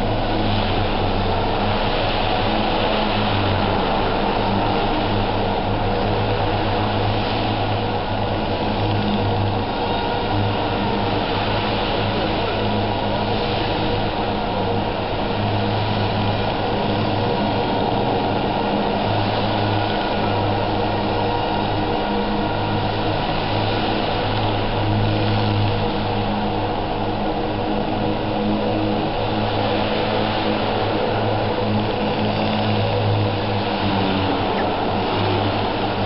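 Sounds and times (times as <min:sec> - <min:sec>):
rc helicopter buzzing: 0:00.0 - 0:36.0.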